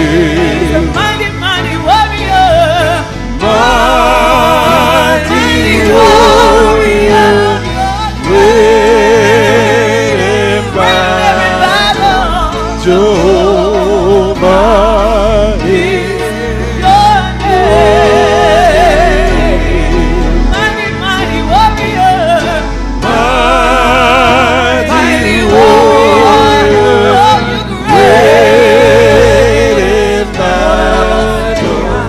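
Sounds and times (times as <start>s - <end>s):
low sustained bass notes: 0.0s - 32.0s
women singing gospel song: 0.0s - 32.0s.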